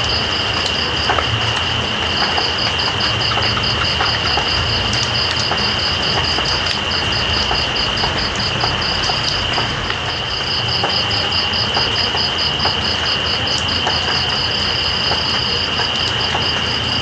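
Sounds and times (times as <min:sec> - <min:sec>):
drip clicks: 0:00.0 - 0:17.0
insect high continuous trill: 0:00.0 - 0:17.0
steady rain: 0:00.0 - 0:17.0.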